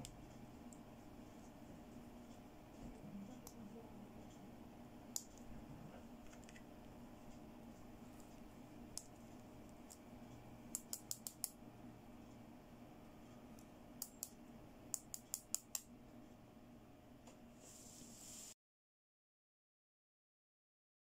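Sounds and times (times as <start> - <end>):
low steady hum: 0.0 - 18.5.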